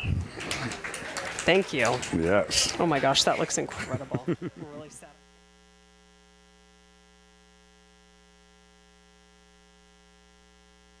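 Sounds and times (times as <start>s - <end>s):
faint electrical mains hum: 0.0s - 11.0s.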